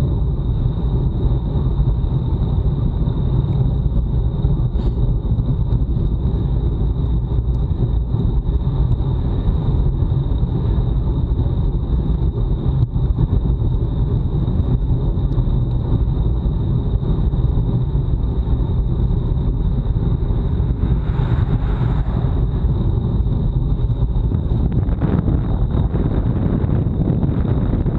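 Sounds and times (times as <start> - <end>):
high whine: 0.0 - 27.9
road and tyre noise: 0.0 - 27.9
wind rumble on microphone: 0.0 - 27.9.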